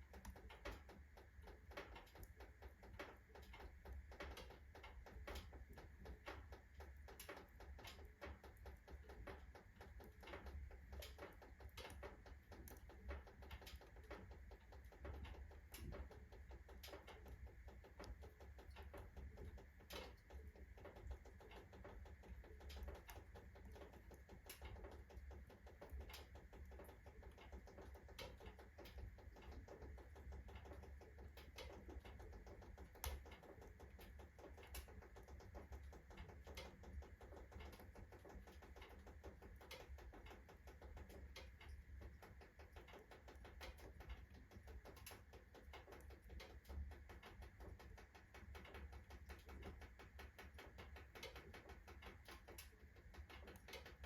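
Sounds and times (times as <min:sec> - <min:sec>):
faint low hum: 0:00.0 - 0:54.0
stove iron ticking as it expands: 0:00.0 - 0:54.0
wood fire ticking and clicking: 0:00.0 - 0:54.0.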